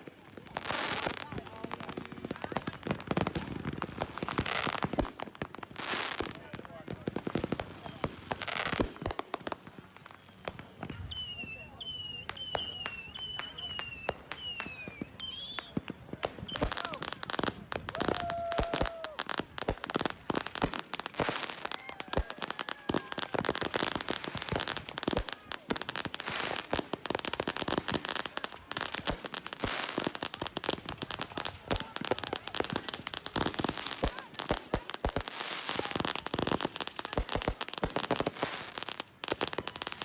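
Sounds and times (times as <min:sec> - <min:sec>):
fireworks and firecrackers popping: 0:00.0 - 0:40.0.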